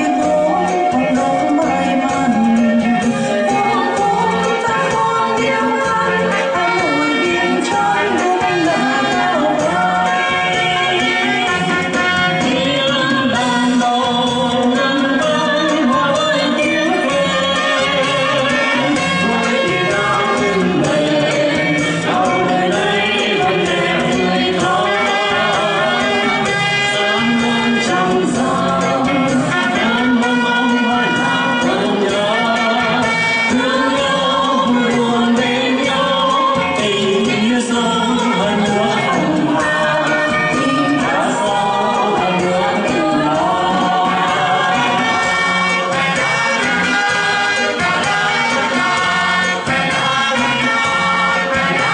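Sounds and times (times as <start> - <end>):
amplified accompaniment with beat: 0.0 - 51.9
women singing together: 0.0 - 51.9.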